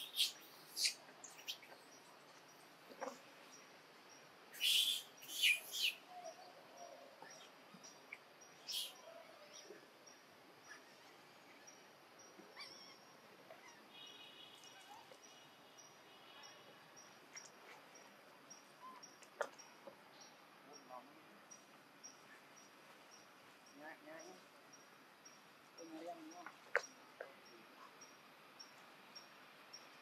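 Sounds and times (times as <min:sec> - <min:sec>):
faint regular chirping: 0:00.0 - 0:30.0.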